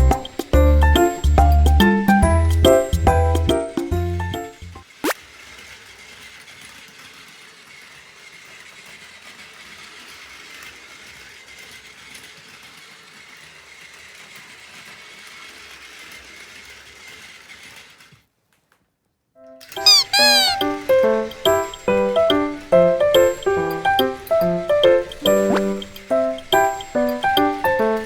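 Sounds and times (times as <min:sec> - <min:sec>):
toy train motor whirring: 0:00.0 - 0:03.0, 0:03.7 - 0:18.3, 0:19.7 - 0:28.0.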